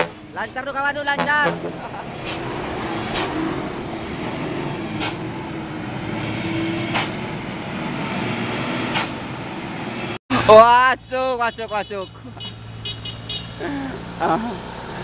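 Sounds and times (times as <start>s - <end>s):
diesel truck engine passing: 0.0s - 15.0s.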